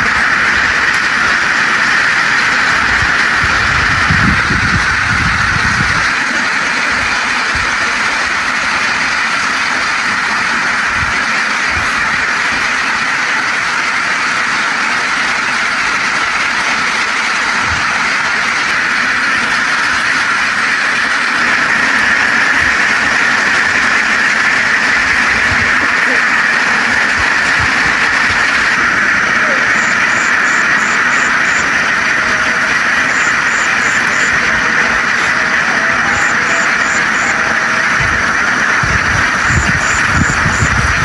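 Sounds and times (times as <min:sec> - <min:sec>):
flock of ducks quacking: 0:00.0 - 0:41.0.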